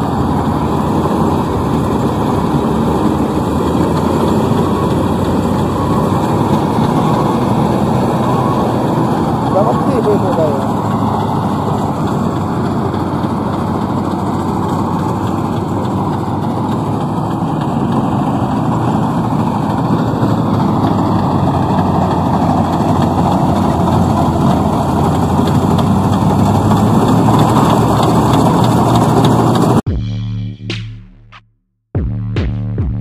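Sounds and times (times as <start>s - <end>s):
combine harvester clattering: 0.0s - 29.8s.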